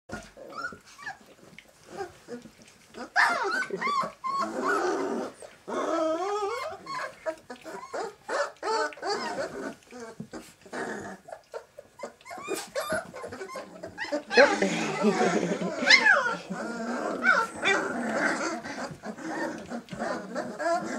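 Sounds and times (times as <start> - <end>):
puppies calling: 0.1 - 20.9.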